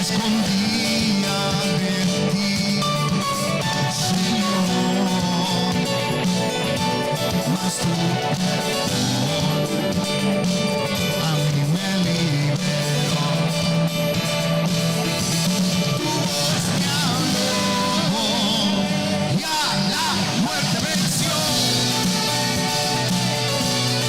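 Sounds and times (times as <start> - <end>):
steady bass part: 0.0 - 24.0
worship band playing: 0.0 - 24.0.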